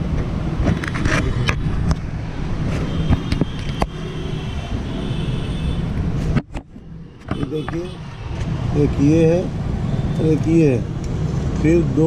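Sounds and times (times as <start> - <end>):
background traffic rumble: 0.0 - 12.0.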